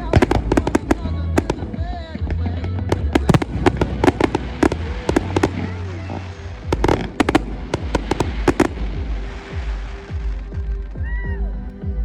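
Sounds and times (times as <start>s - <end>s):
fireworks bangs and cracks: 0.0s - 10.9s.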